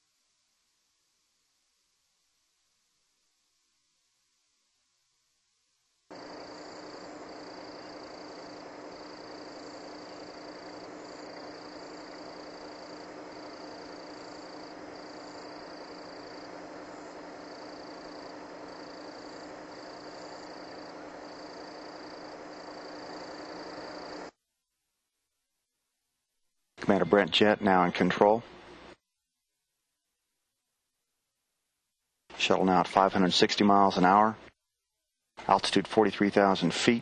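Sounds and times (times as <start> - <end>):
steady hiss with low hum: 0.0 - 34.6, 35.3 - 37.0.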